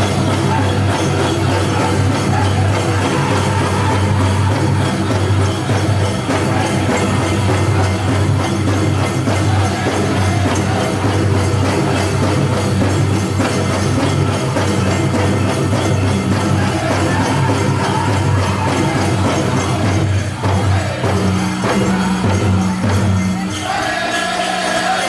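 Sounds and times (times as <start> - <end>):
group drumming: 0.0 - 25.0
group singing: 0.0 - 25.0.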